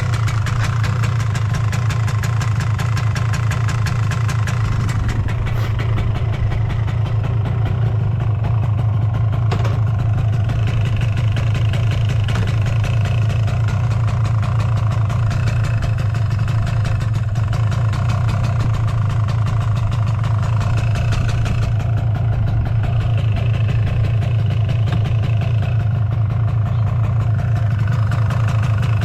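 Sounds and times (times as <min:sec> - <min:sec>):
two-stroke engine idling: 0:00.0 - 0:29.0.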